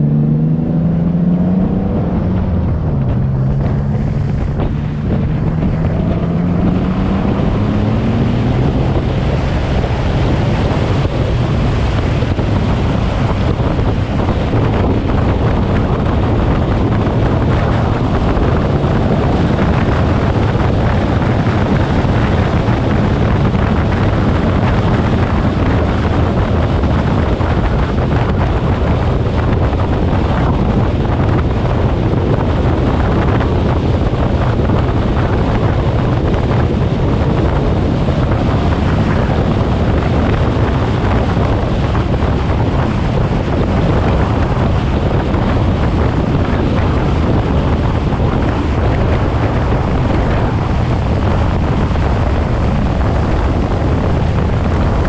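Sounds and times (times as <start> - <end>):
car engine drone: 0.0 - 55.0
wind noise on microphone: 0.0 - 55.0.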